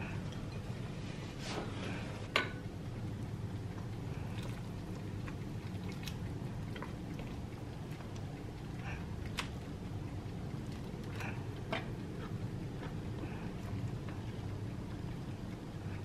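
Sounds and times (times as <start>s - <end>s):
broth pouring and dripping: 2.8s - 16.0s.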